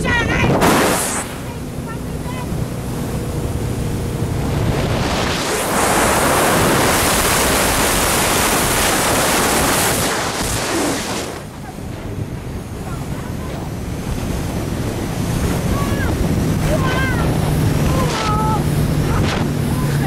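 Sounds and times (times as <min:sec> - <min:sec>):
powerboat rushing through water: 0:00.0 - 0:20.0
wind blasting the microphone: 0:00.0 - 0:20.0.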